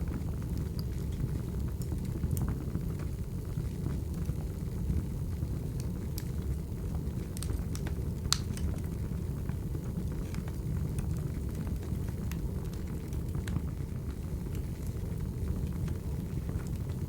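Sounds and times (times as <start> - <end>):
burning logs rumbling: 0.0 - 17.0
fire pops and snaps: 0.0 - 17.0.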